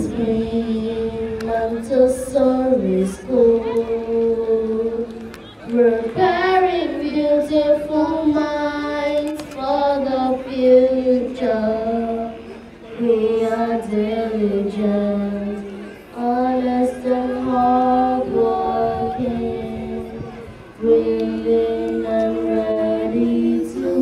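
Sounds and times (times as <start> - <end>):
girls singing unaccompanied: 0.0 - 24.0.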